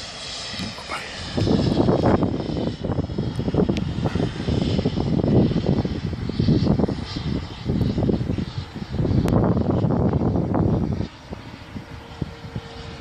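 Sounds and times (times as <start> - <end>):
electric ducted fan whine: 0.0 - 13.0
wind buffeting microphone: 0.0 - 13.0.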